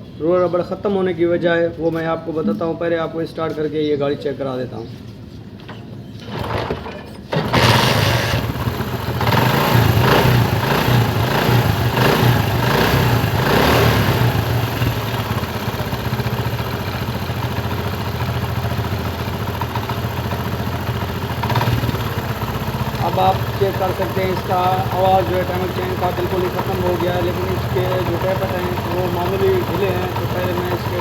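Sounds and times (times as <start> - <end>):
engine tappet noise: 5.0 - 31.0
motorcycle engine starting and idling: 5.5 - 31.0.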